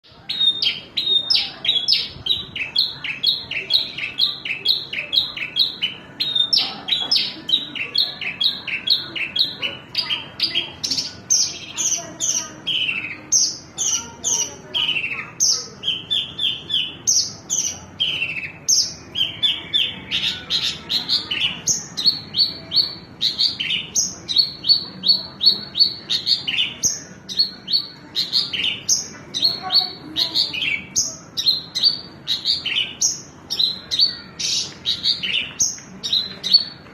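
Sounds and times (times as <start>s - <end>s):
lark singing rapid chirps: 0.0s - 36.8s.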